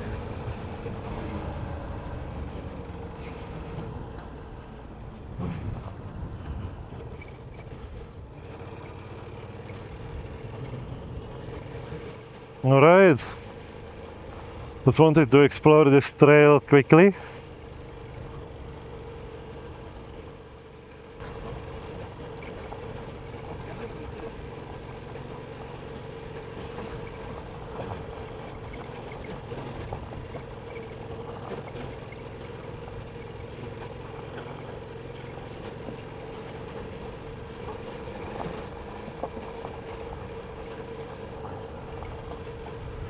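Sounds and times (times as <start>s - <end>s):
motorcycle engine running: 0.0s - 15.1s, 17.2s - 43.0s.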